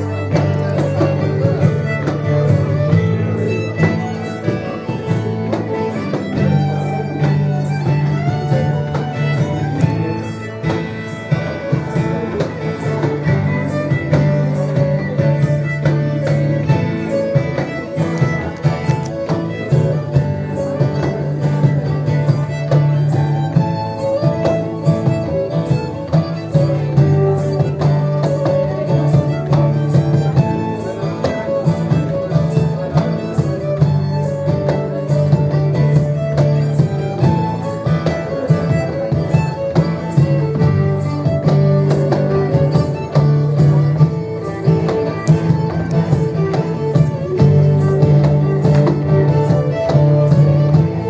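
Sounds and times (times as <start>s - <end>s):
fiddle: 0.0s - 51.0s
guitar: 0.0s - 51.0s
steady beat: 0.0s - 51.0s.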